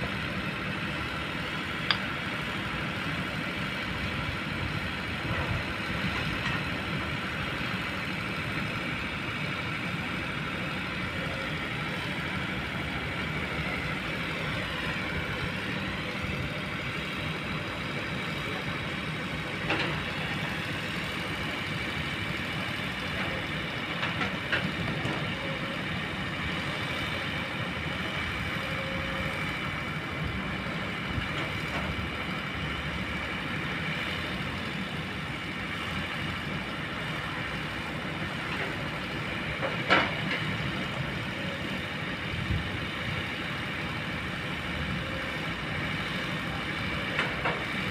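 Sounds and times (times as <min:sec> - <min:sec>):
excavator diesel engine running: 0:00.0 - 0:47.9
steady whine: 0:00.0 - 0:47.9.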